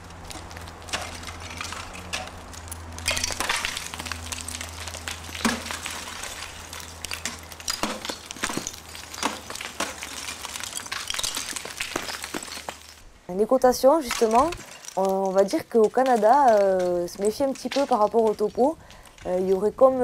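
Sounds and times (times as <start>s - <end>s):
ice axes and crampons striking ice: 0.0s - 13.0s, 13.8s - 20.0s.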